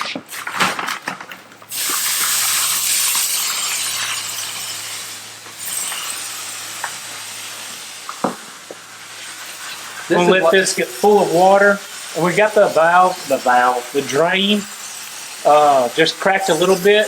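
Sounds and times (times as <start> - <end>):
water spraying with a hiss: 1.7 - 17.0.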